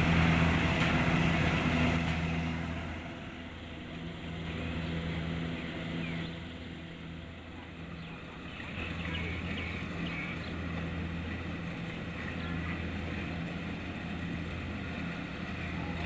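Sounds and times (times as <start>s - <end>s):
diesel engine humming under load: 0.0s - 16.0s.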